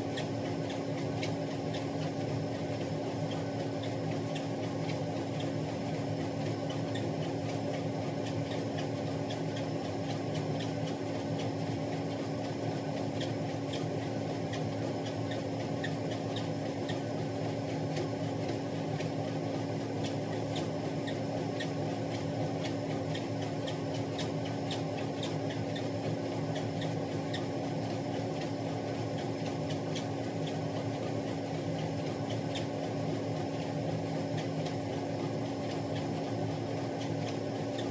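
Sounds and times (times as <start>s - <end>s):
treadmill motor hum: 0.0s - 37.9s.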